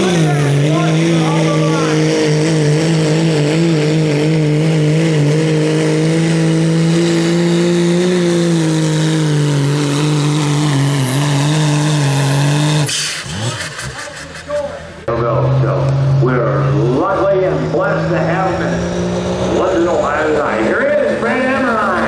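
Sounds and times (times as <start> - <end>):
diesel engine at full throttle: 0.0 - 22.0.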